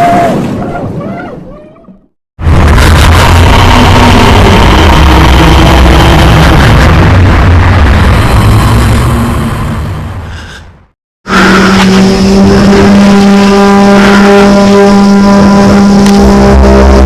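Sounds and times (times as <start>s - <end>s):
harsh noisy blast: 2.4s - 17.0s
low droning rumble: 2.4s - 17.0s.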